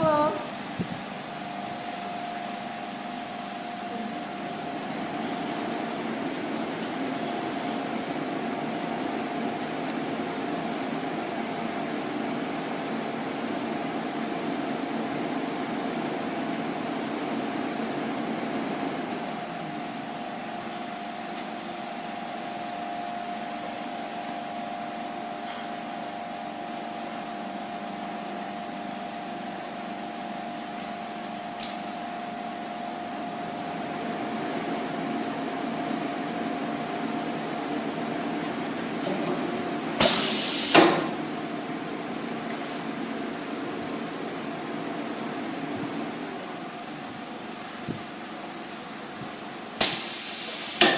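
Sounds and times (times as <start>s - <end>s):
machine oven humming whine: 0.0s - 50.9s.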